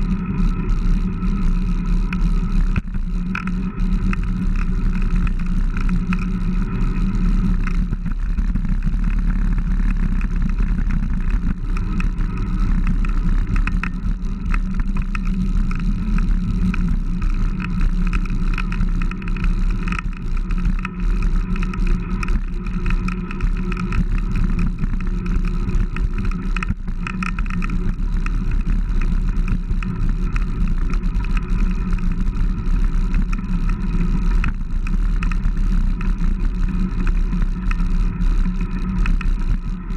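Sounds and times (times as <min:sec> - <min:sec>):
bicycle road noise: 0:00.0 - 0:39.9
wind rumble: 0:00.0 - 0:39.9.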